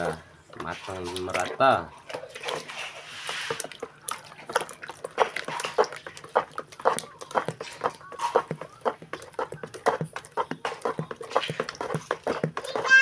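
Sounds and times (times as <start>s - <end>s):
hand squelching thick liquid: 0.6s - 12.8s.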